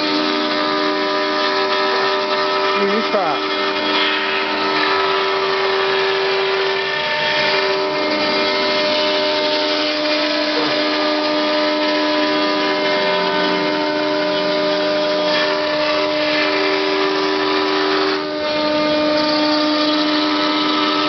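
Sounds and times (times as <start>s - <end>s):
router spindle carving foam: 0.0s - 21.0s.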